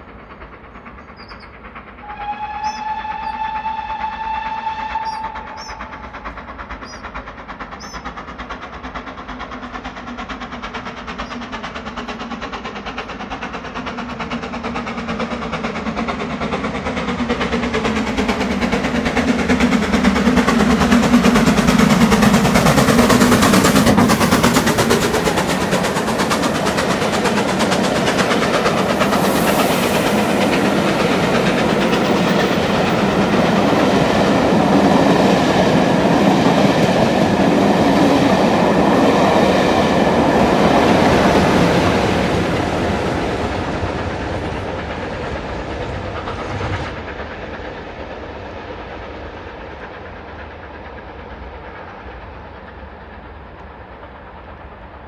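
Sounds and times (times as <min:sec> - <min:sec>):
steam locomotive rumble: 0:00.0 - 0:55.0
wheels on rails: 0:00.0 - 0:55.0.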